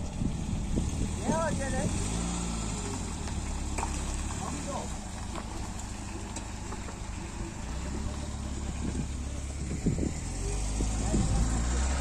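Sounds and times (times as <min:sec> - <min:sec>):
van engine running at low revs: 0:00.0 - 0:12.0.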